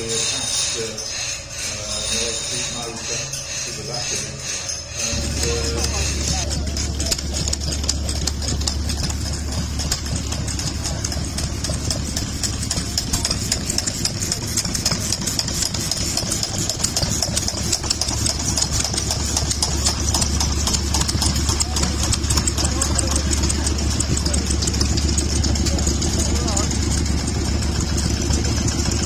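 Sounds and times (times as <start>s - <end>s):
engines idling with low hum: 0.0s - 29.0s.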